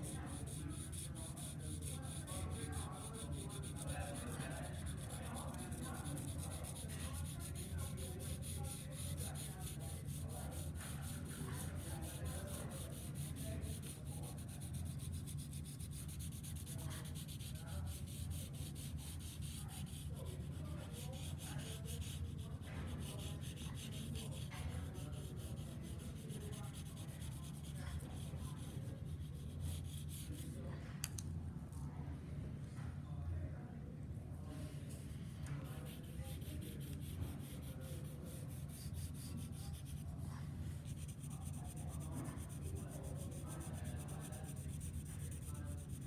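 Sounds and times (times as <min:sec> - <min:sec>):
pencil shading on paper: 0:00.0 - 0:30.5, 0:35.6 - 0:40.1, 0:40.8 - 0:46.0.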